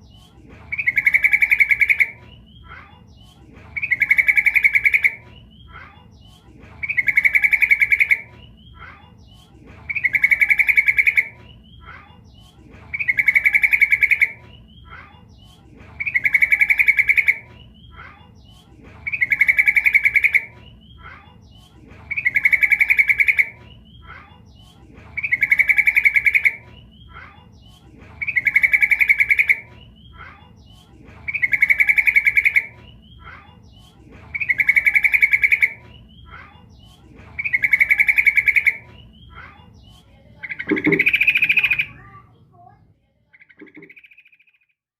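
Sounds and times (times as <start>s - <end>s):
bird chattering trill: 0.0s - 42.2s, 43.4s - 44.7s
faint bird chirps: 0.0s - 44.9s.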